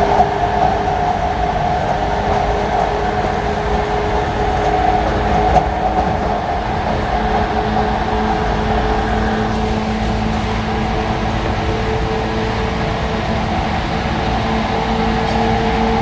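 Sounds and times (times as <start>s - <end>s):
electric train rumbling: 0.0s - 16.0s
humming tones from train equipment: 0.0s - 16.0s.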